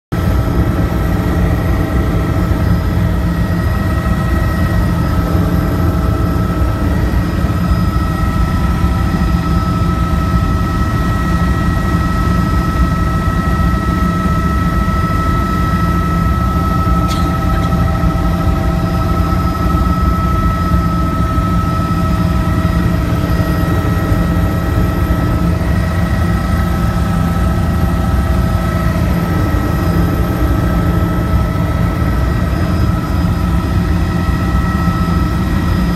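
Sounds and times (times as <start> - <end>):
helicopter engine rumble: 0.1 - 35.9
helicopter high whine: 0.1 - 35.9.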